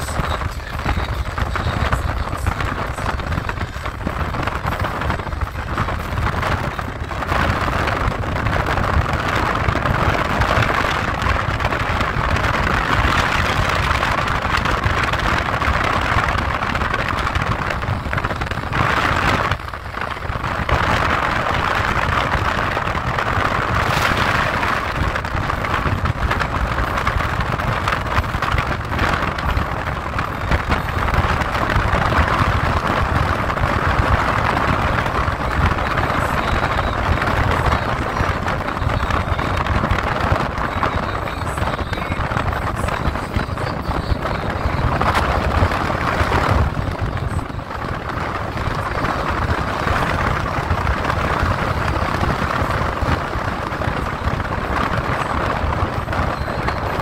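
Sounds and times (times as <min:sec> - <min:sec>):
car road and wind noise: 0:00.0 - 0:57.0.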